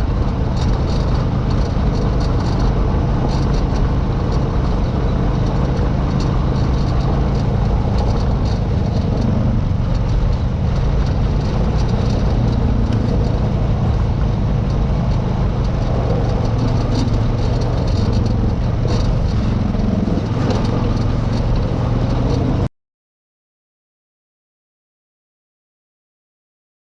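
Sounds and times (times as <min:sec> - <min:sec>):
light clicks and rattles: 0:00.0 - 0:22.7
off-road vehicle engine running: 0:00.0 - 0:22.7.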